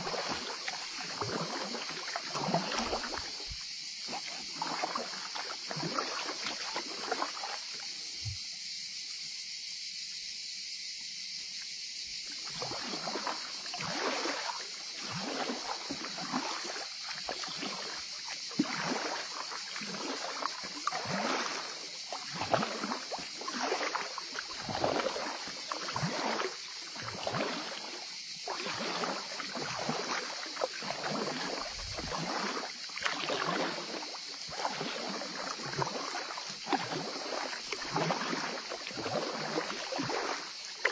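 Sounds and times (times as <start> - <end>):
water splashing around a kayak: 0.0 - 40.9.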